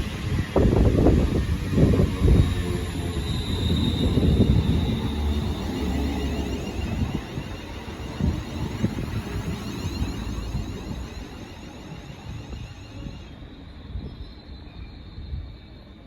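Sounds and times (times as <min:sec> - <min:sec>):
train wheels and motors rumbling: 0:00.0 - 0:15.6
brake squeal: 0:01.3 - 0:16.0.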